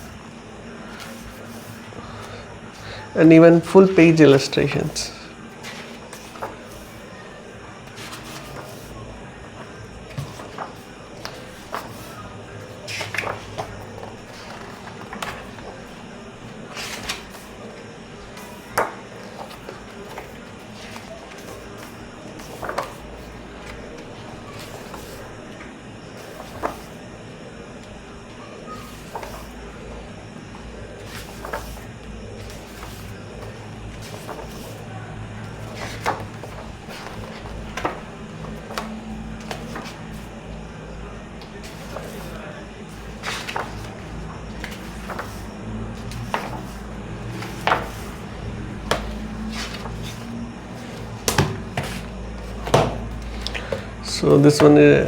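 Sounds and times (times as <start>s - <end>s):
book pages turning: 0.0s - 27.0s, 27.8s - 54.9s.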